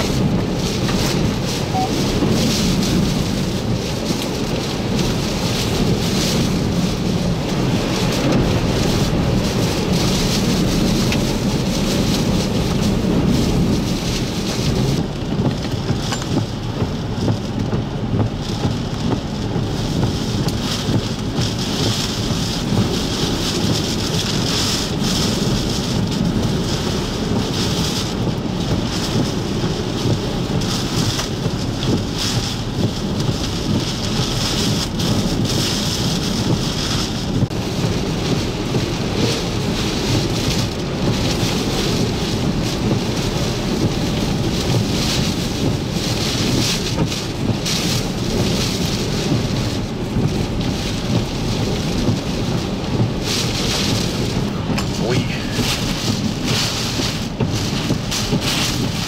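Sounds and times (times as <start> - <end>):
deep rumble: 0.0 - 46.7, 47.4 - 59.0
driving rain: 0.0 - 59.0
hurricane winds: 0.0 - 59.0.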